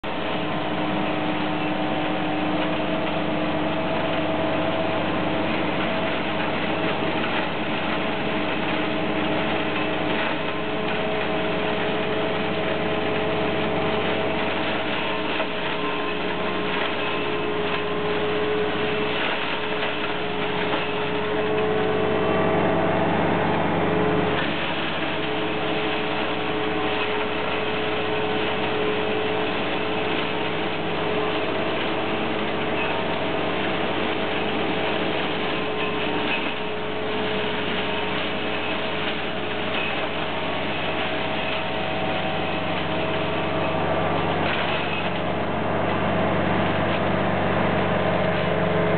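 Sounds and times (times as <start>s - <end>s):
flail mower whirring: 0.0s - 48.9s
tractor engine running: 0.0s - 48.9s.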